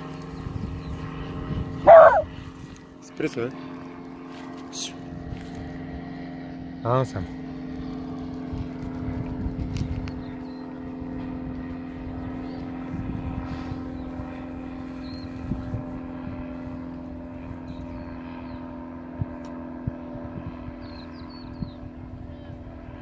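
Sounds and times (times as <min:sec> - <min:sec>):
propeller airplane engine humming: 0:00.0 - 0:23.0.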